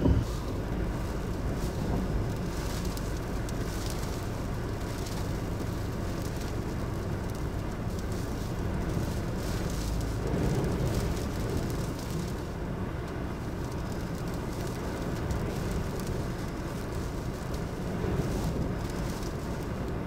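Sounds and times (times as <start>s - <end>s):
car engine and tyres rumbling: 0.0s - 20.0s
wind gusting against car: 0.0s - 20.0s.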